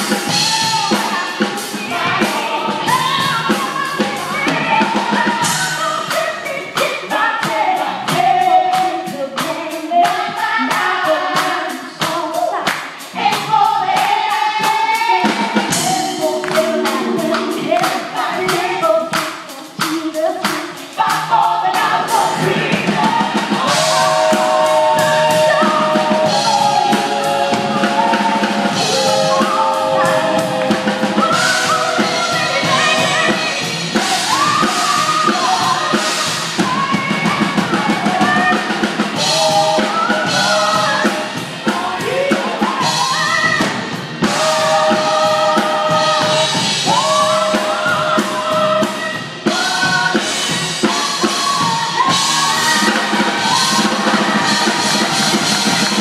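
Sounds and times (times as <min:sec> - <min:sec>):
drum kit beat: 0:00.0 - 0:56.0
group singing with backing voices: 0:00.0 - 0:56.0
live band: 0:00.0 - 0:56.0.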